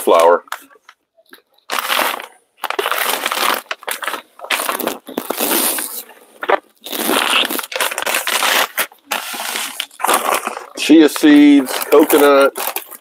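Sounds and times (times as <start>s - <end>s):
plastic packaging crinkling: 1.2s - 13.0s.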